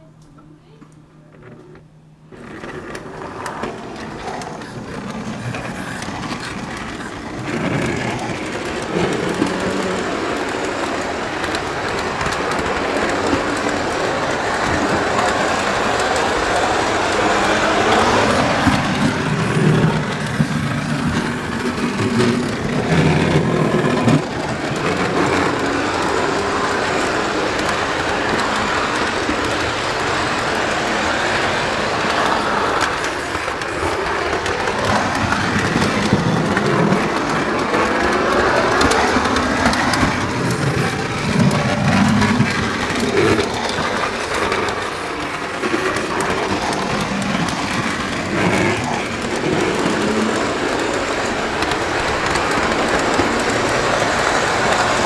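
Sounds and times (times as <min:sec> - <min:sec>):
model train wheels rumbling: 0:00.0 - 0:55.0.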